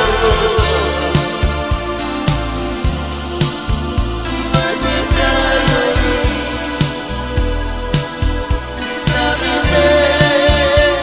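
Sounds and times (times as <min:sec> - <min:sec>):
electronic keyboard melody: 0:00.0 - 0:11.0
steady drum beat: 0:00.0 - 0:11.0.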